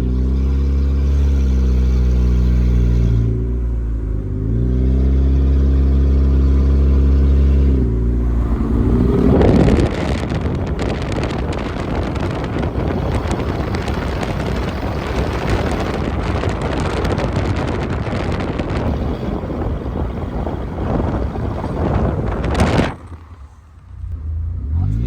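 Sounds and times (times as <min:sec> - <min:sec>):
wind buffeting microphone: 0:00.0 - 0:24.1
road and engine noise: 0:00.0 - 0:25.0.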